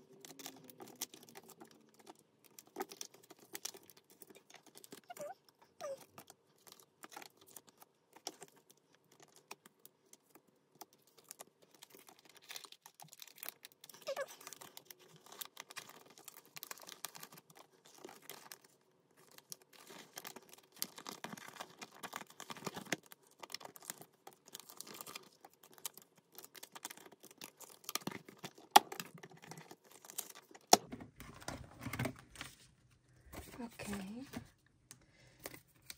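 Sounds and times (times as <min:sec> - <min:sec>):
plastic sleeves rustling: 0:00.0 - 0:35.9.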